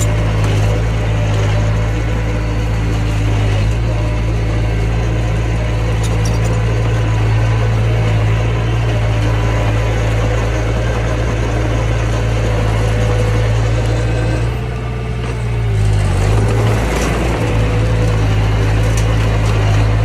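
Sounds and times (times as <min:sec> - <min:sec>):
mini bulldozer engine running: 0:00.0 - 0:20.0.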